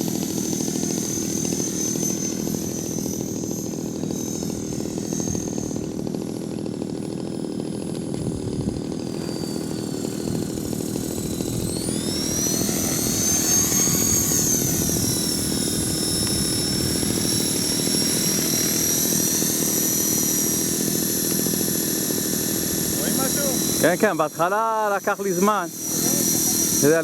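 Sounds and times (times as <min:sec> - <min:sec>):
helicopter rotor noise: 0:00.0 - 0:27.0
high motor whine: 0:00.0 - 0:27.0.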